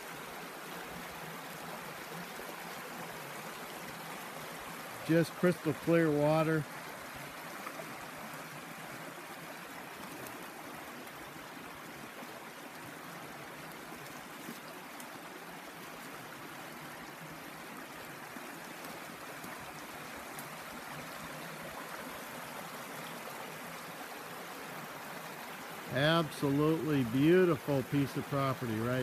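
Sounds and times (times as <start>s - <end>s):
creek flowing over stones: 0.0s - 29.0s.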